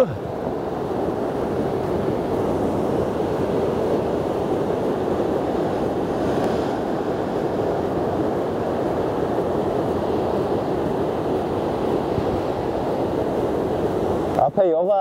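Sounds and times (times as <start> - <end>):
surf roaring on rocks: 0.0 - 15.0.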